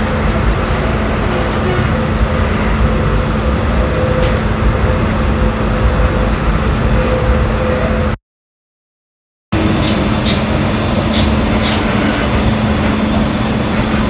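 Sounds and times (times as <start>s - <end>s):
train rumble: 0.0s - 8.2s, 9.6s - 14.0s.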